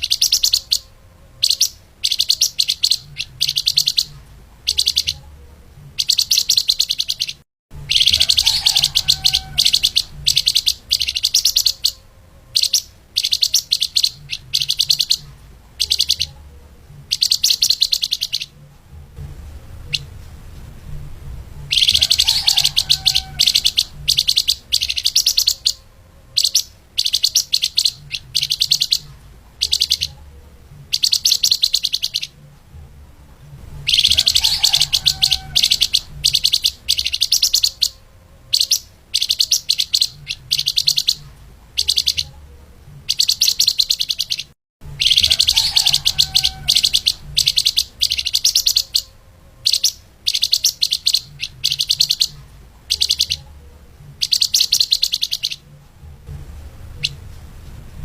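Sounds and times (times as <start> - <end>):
songbird chattering trills: 0.0 - 18.6, 21.7 - 30.2, 30.8 - 32.4, 33.8 - 42.4, 43.0 - 53.5, 54.2 - 55.7.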